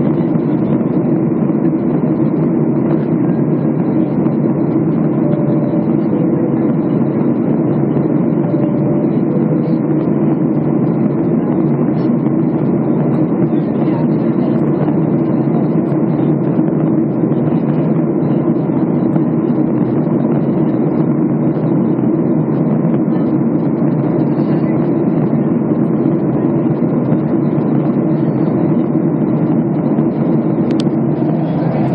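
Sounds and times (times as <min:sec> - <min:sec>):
airliner cabin engine drone: 0:00.0 - 0:31.9.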